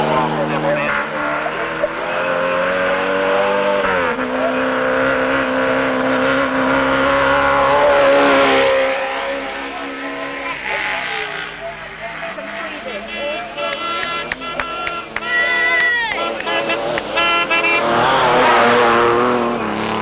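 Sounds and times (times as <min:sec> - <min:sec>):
race vehicle engine running hard: 0:00.0 - 0:20.0.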